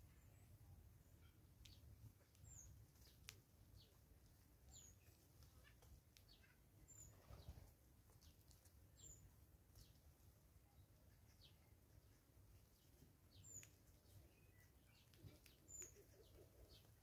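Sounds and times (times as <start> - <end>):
faint woodland birdsong: 0.0 - 17.0.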